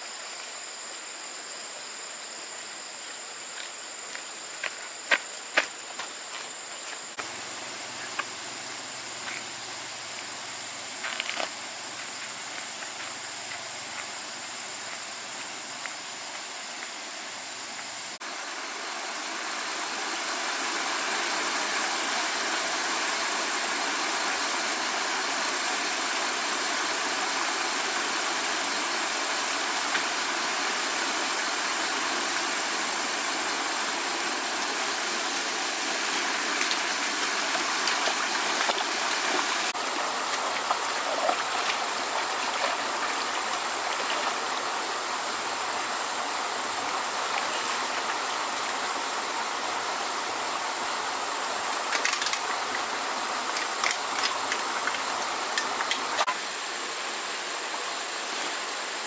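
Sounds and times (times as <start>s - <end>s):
stream water rushing: 6.1s - 59.0s.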